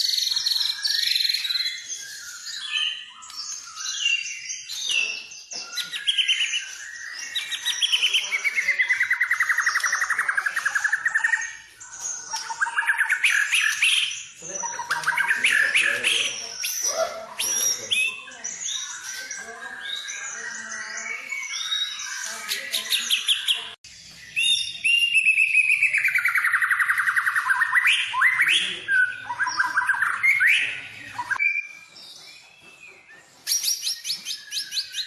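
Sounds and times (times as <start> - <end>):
songbird singing trills and whistles: 0.0 - 35.0.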